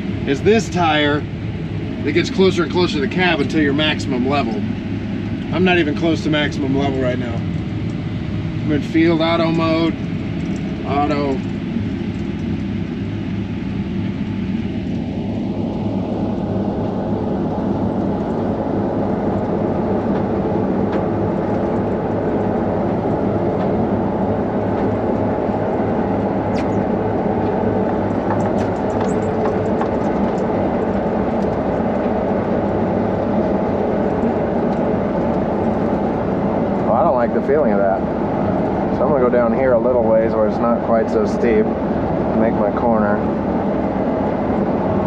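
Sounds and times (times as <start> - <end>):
combine harvester drone from cab: 0.0 - 45.0.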